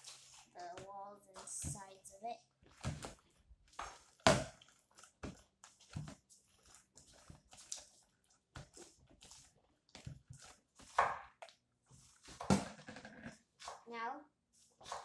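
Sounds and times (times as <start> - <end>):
slime squelching and crackling: 0.0 - 14.0.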